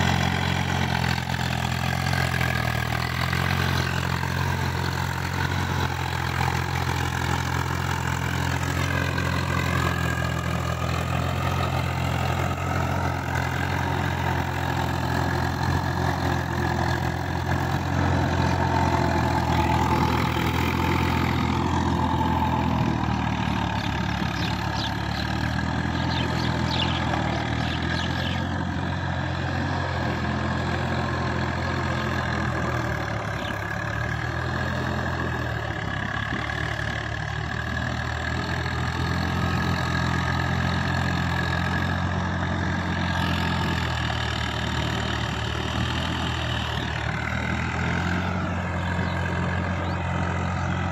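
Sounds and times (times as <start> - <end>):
tractor diesel engine under load: 0.0 - 50.9.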